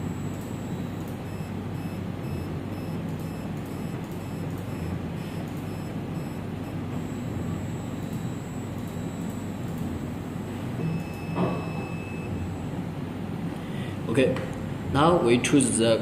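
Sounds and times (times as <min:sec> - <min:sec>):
machine low hum: 0:00.0 - 0:16.0.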